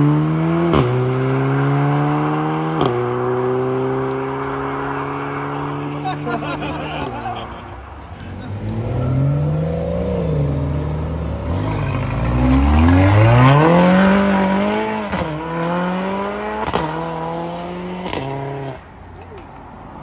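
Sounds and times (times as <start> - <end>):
sports car accelerating: 0.0 - 20.0.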